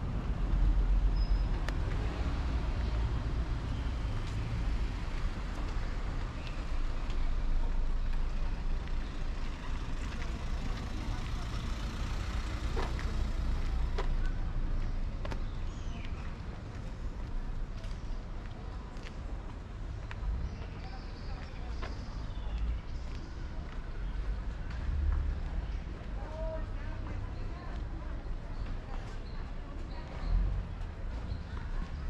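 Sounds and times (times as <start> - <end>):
rumble of passing traffic: 0.0 - 32.0.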